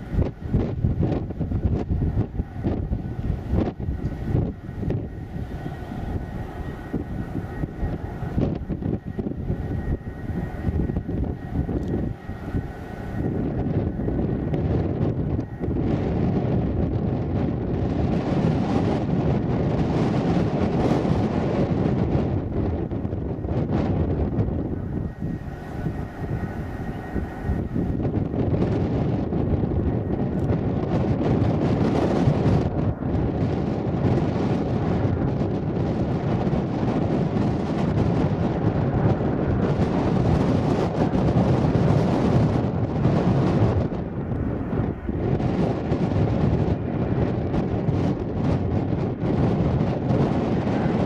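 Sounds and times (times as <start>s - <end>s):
jet engines rumbling: 0.0s - 51.0s
wind buffeting microphone: 0.0s - 51.0s.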